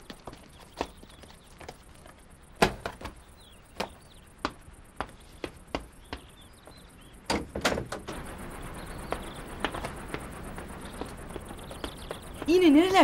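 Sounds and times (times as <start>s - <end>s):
footsteps on stone: 0.0s - 6.9s, 8.9s - 13.0s
insect chirps: 0.0s - 13.0s.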